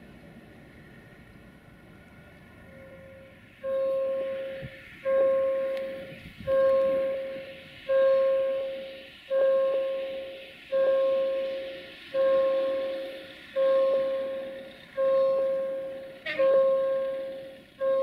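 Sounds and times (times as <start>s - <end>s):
electronic warning tone: 2.8s - 18.0s.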